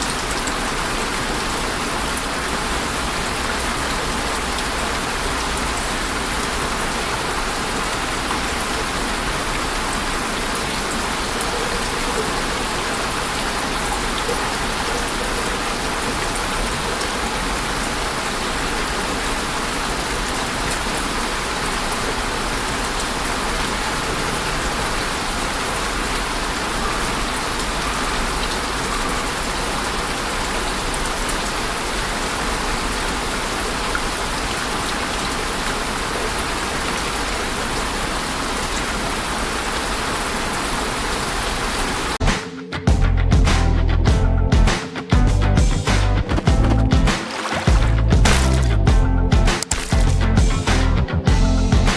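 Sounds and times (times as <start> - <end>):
steady rain hiss: 0.0 - 42.2.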